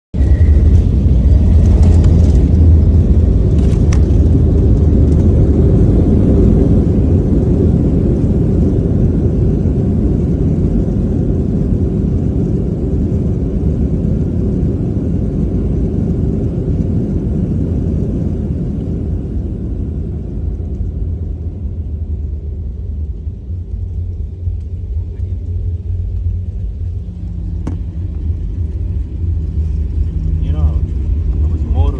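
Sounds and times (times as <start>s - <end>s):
jet airliner cabin roar: 0.1s - 31.9s.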